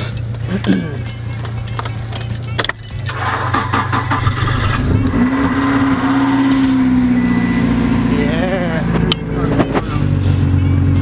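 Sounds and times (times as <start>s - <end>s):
car engine cranking and idling: 0.0s - 11.0s.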